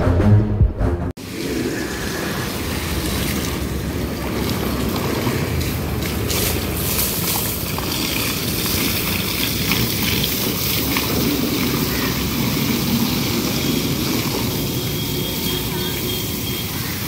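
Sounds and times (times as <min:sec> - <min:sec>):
hose water spraying on car: 0:01.2 - 0:17.0.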